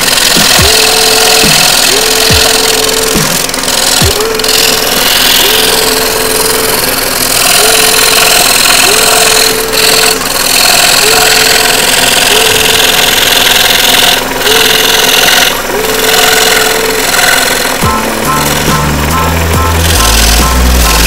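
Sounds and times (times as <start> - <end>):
scroll saw cutting wood: 0.0 - 21.0.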